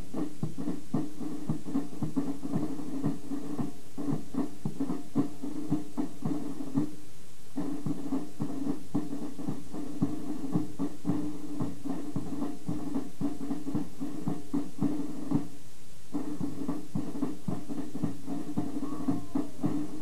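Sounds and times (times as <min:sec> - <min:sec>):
military band playing march: 0:00.0 - 0:07.0, 0:07.6 - 0:20.0
steady drum beat: 0:00.0 - 0:20.0.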